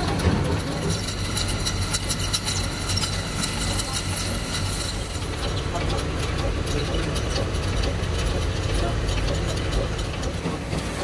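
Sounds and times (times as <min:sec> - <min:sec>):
lathe machine hum: 0:00.0 - 0:11.0.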